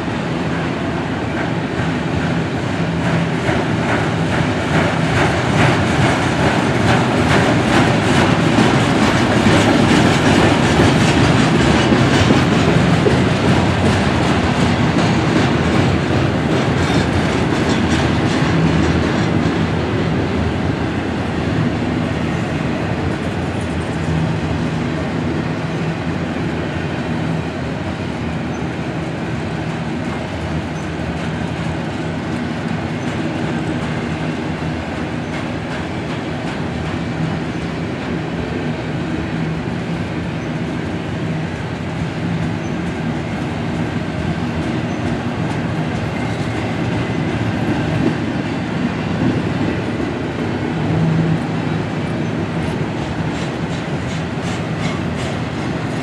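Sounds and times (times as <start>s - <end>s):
steel wheels rolling on rails: 0.0s - 56.0s.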